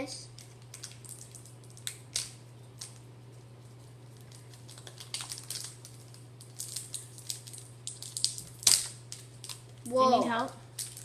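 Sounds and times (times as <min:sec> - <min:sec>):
steady low hum: 0:00.0 - 0:11.0
foil wrapper crinkling: 0:00.4 - 0:09.8, 0:10.6 - 0:11.0.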